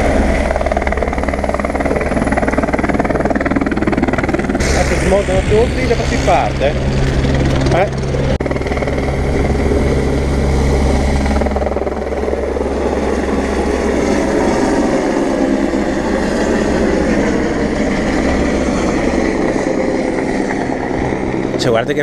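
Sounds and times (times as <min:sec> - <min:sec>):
helicopter flying past: 0:00.0 - 0:22.0.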